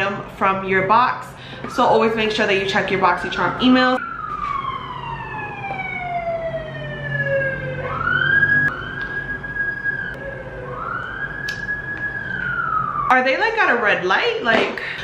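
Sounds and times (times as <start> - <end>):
emergency siren wailing: 1.5 - 14.0.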